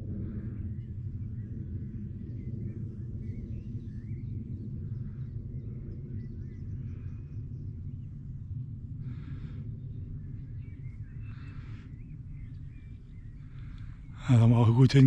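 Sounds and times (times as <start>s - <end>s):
low outdoor rumble: 0.0s - 15.0s
faint bird chirps: 0.1s - 15.0s.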